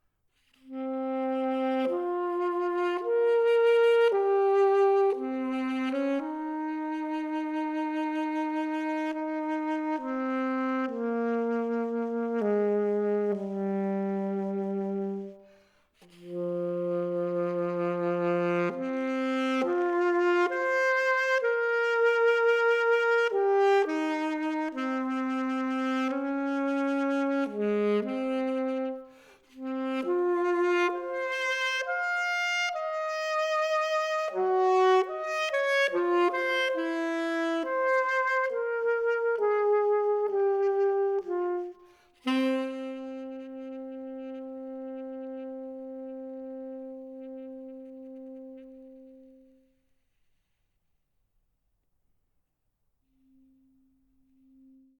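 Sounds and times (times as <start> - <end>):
saxophone melody: 0.6 - 49.8.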